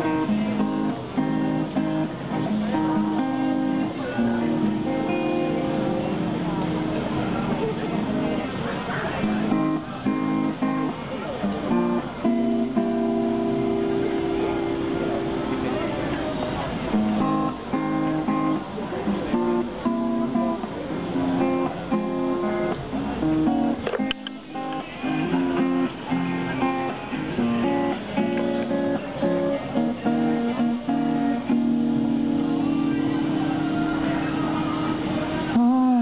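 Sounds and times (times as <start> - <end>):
acoustic guitar strumming and picking: 0.0 - 36.0.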